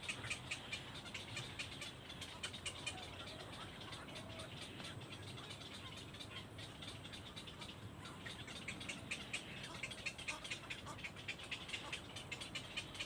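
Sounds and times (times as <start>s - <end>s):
nestling birds chirping: 0.0s - 13.0s.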